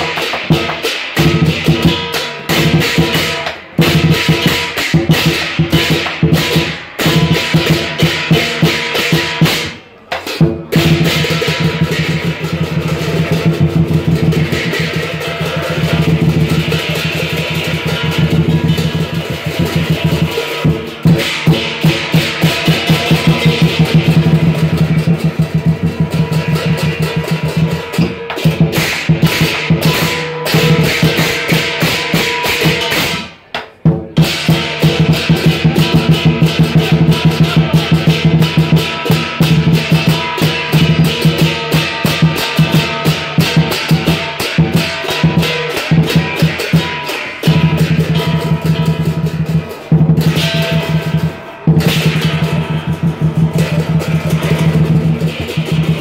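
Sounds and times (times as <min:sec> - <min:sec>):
big drum beaten fast: 0:00.0 - 0:56.0
cymbals ringing: 0:00.0 - 0:56.0.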